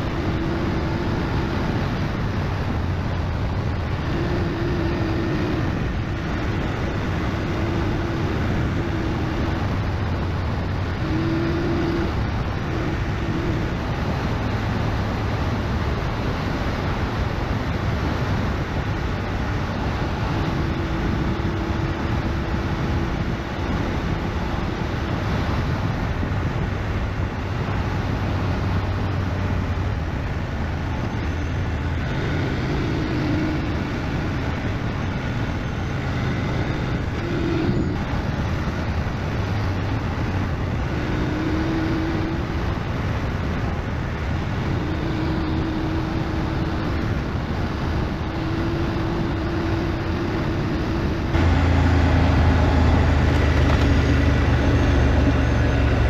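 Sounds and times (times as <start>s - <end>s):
motorcycle engine: 0.0s - 56.0s
wind and road noise: 0.0s - 56.0s.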